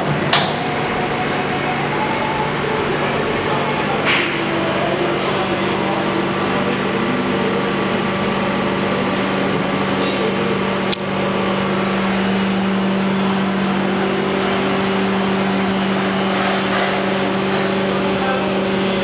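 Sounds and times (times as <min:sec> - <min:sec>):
higher hum: 0:00.0 - 0:19.0.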